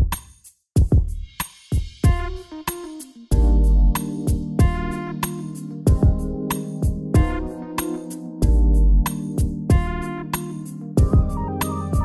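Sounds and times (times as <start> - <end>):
steady drum beat: 0.0 - 12.0
held chords: 2.0 - 12.0.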